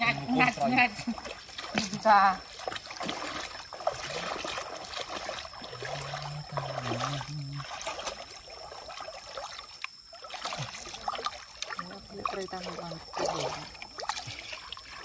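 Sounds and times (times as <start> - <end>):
creek water trickling and splashing: 0.0 - 15.0.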